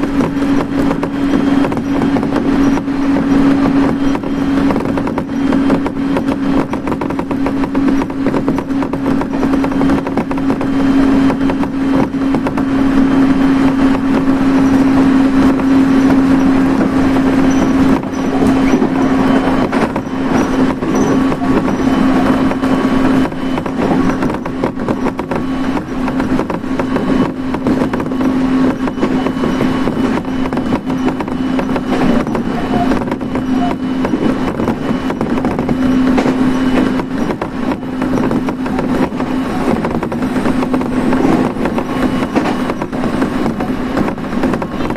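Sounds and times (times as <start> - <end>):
low hum: 0.0 - 44.9
train wheels running on rail: 0.0 - 44.9.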